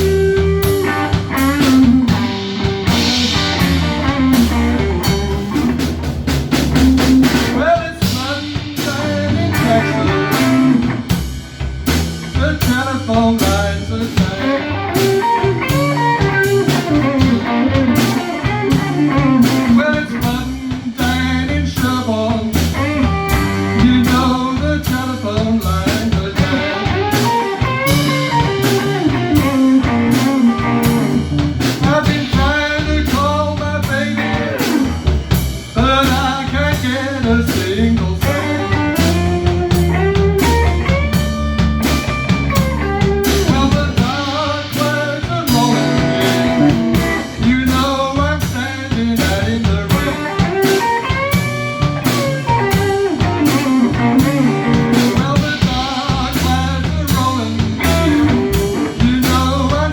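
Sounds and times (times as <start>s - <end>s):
electric guitar bending notes: 0.0s - 12.4s, 13.0s - 59.9s
drum kit: 0.0s - 59.9s
steady low bass notes: 0.0s - 59.9s.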